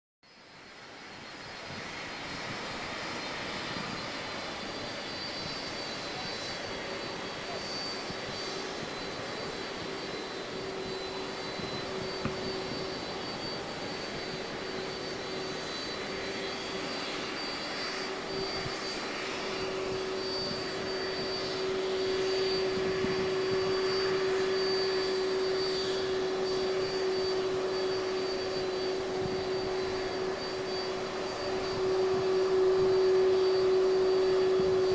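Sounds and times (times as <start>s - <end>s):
jet engines running: 0.3s - 34.9s.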